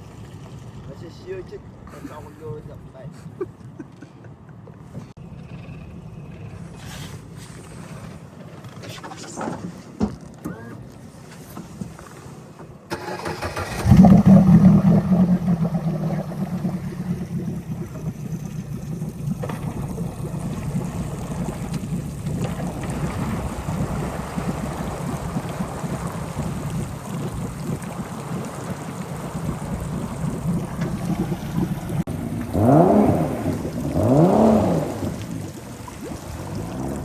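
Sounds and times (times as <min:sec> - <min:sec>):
water noise: 0:00.0 - 0:03.7, 0:04.9 - 0:37.0
boat engine starting and running: 0:00.0 - 0:37.0
wind: 0:00.0 - 0:37.0.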